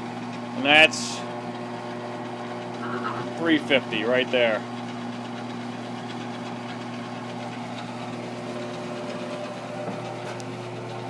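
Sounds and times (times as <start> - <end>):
drill press running: 0.0 - 11.0.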